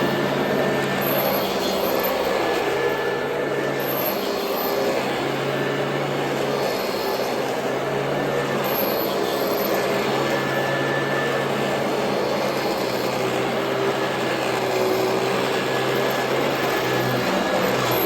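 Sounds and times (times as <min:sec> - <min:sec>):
upright vacuum cleaner running: 0:00.0 - 0:18.0.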